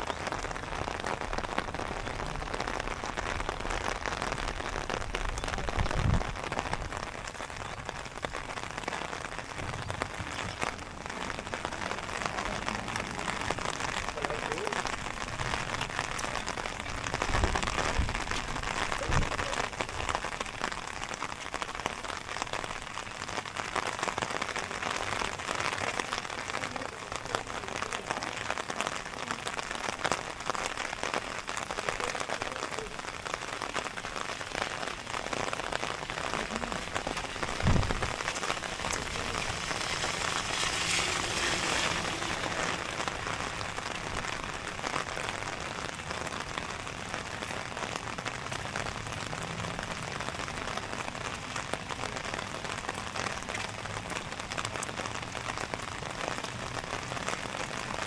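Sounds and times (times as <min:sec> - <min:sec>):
rain pattering on ground: 0:00.0 - 0:58.0.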